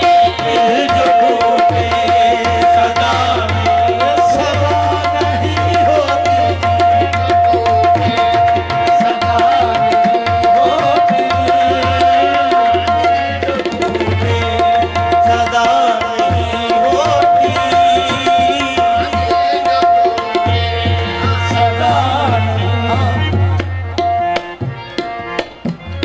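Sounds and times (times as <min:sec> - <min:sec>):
harmonium drone and melody: 0:00.0 - 0:26.0
tabla fast rhythm: 0:00.0 - 0:26.0.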